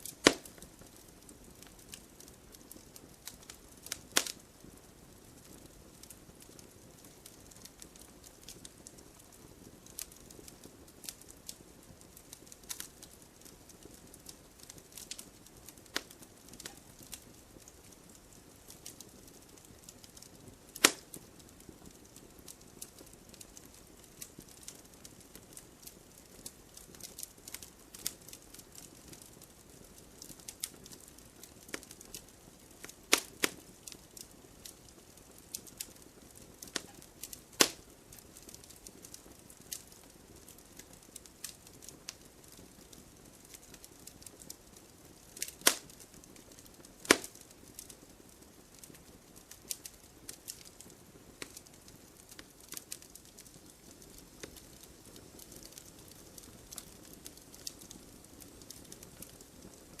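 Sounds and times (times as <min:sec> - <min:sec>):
loud fire snaps: 0:00.0 - 1:00.0
soft steady hiss of fire: 0:00.0 - 1:00.0
wood fire crackling and popping: 0:00.0 - 1:00.0.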